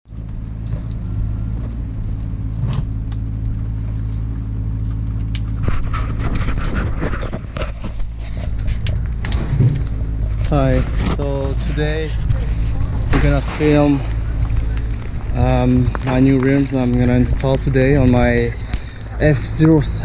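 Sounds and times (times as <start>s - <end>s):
car engine idling: 0.1s - 20.0s
clicks and handling noises: 0.1s - 20.0s.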